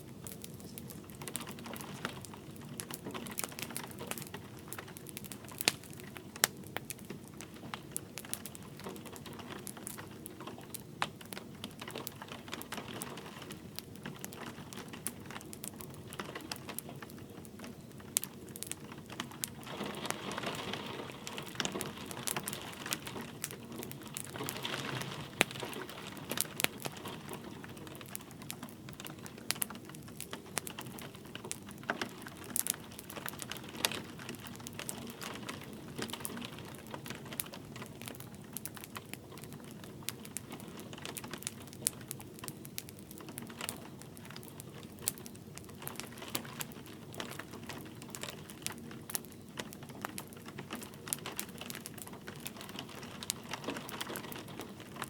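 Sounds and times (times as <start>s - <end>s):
light rain pattering: 0.0s - 55.0s
wood fire crackling: 0.0s - 55.0s.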